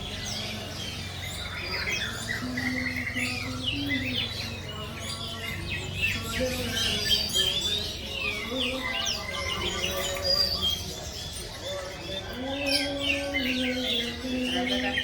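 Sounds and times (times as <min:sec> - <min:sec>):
songbirds chirping chorus: 0:00.0 - 0:15.0.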